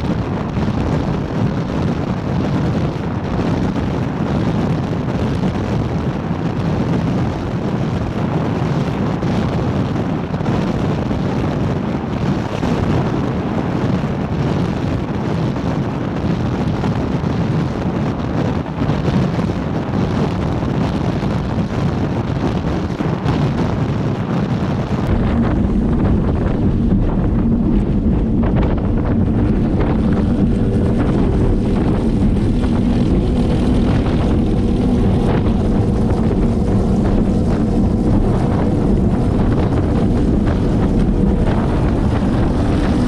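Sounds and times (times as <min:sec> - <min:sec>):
boat running noise: 0:00.0 - 0:43.0
rushing water: 0:00.0 - 0:43.0
wind roar on microphone: 0:00.0 - 0:43.0.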